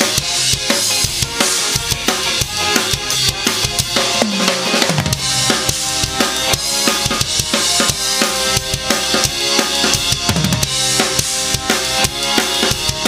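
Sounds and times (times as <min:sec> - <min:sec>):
drum kit groove: 0:00.0 - 0:13.0
ska backing track: 0:00.0 - 0:13.0.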